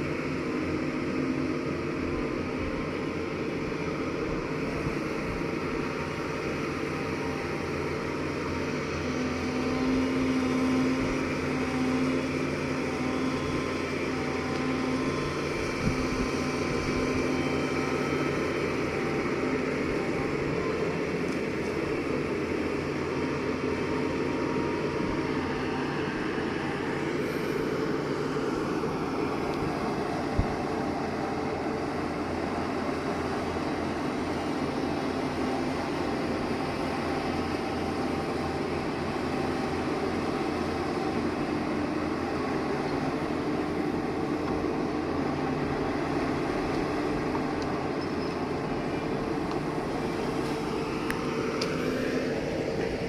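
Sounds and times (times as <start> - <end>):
heavy diesel engine working: 0.0 - 53.0.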